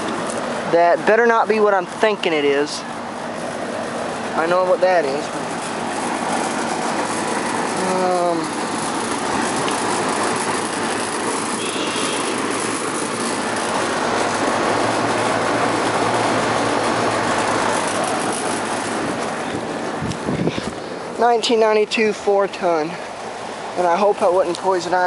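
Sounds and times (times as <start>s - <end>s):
low compressor hum: 0.0s - 21.8s
fan air rushing: 0.0s - 25.0s.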